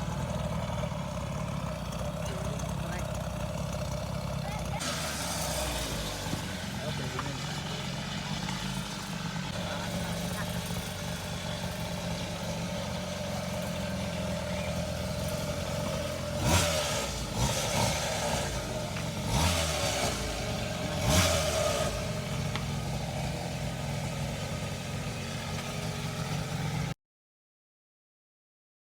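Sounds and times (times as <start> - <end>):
engine revving: 0.0 - 27.0
small two-stroke engine idling: 0.0 - 27.0.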